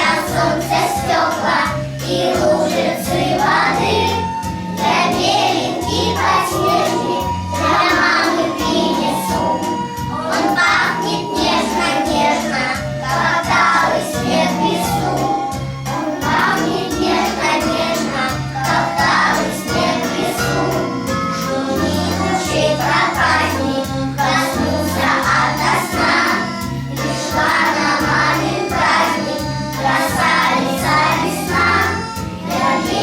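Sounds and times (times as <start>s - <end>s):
children singing: 0.0s - 33.0s.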